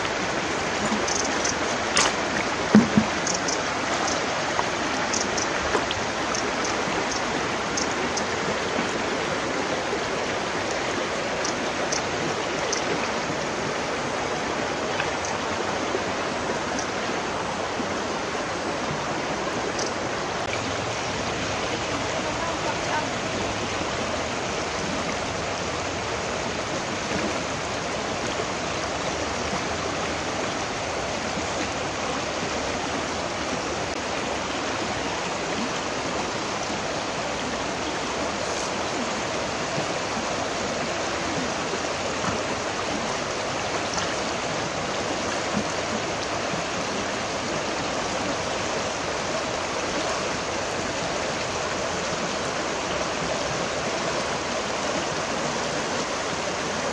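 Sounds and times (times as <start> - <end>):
river rushing over stones: 0.0 - 56.9.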